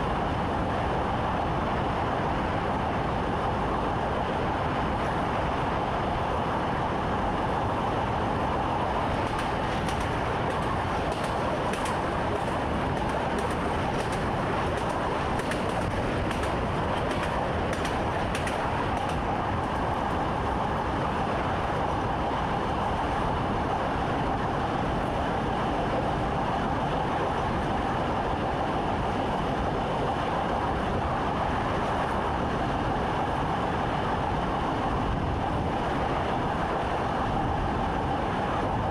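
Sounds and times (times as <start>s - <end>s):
train rumble and hum: 0.0s - 38.9s.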